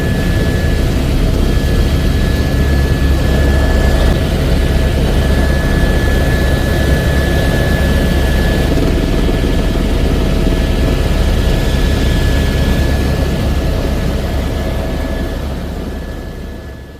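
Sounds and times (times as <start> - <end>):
high whine: 0.0 - 16.2
helicopter rotor and engine: 0.0 - 16.9.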